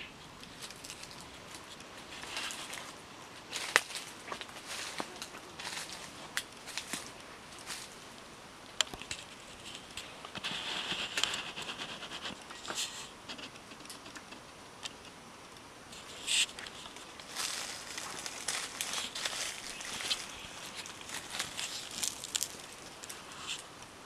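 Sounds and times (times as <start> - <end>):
dry leaves rustling and crackling: 0.4 - 8.2, 8.9 - 13.1, 16.0 - 23.8.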